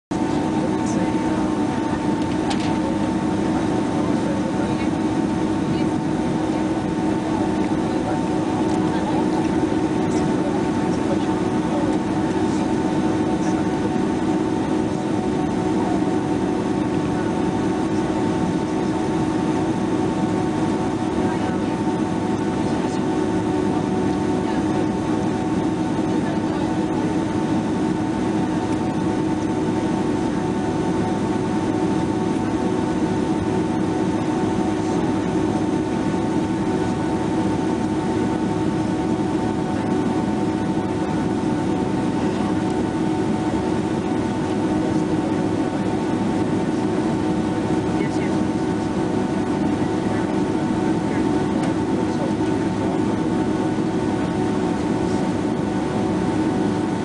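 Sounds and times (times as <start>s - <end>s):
aircraft cabin hum: 0.1s - 57.0s
jet engine whine: 0.1s - 57.0s.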